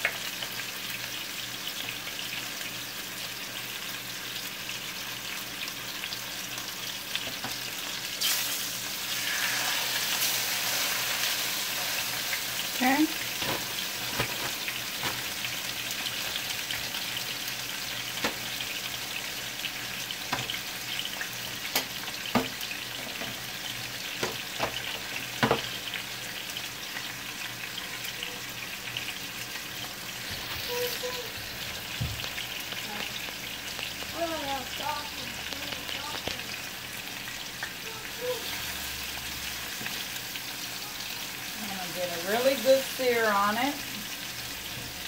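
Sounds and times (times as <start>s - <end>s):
steak sizzling in a frying pan: 0.0s - 45.0s.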